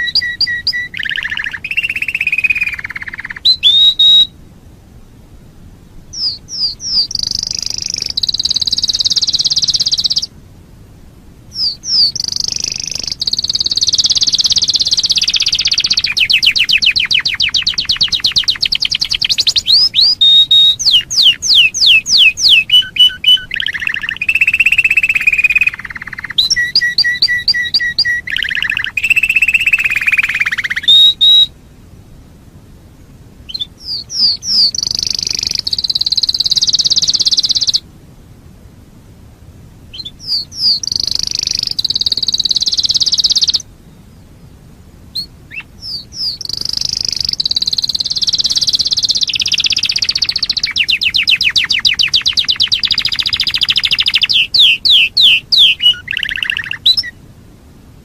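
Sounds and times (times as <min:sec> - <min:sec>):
canary singing: 0:00.0 - 0:04.4, 0:06.0 - 0:10.4, 0:11.5 - 0:31.6, 0:33.5 - 0:37.8, 0:39.9 - 0:43.7, 0:45.1 - 0:57.2.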